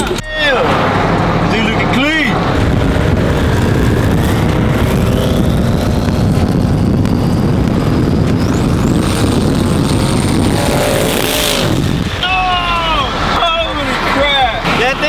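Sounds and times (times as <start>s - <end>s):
car engine accelerating hard: 0.0s - 15.0s
high whine: 0.0s - 15.0s.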